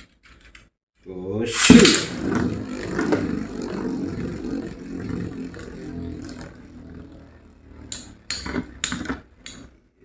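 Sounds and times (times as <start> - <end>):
spinning tops whirring and clattering: 1.5 - 9.8.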